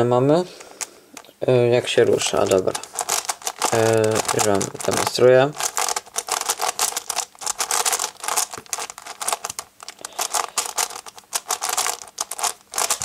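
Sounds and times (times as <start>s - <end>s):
puzzle cube clicking: 2.2s - 13.0s.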